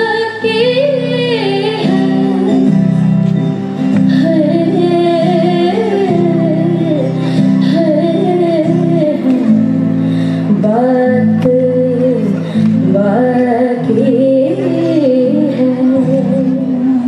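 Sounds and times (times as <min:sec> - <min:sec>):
woman singing: 0:00.0 - 0:03.1, 0:03.9 - 0:17.0
acoustic guitar chords: 0:00.0 - 0:17.0.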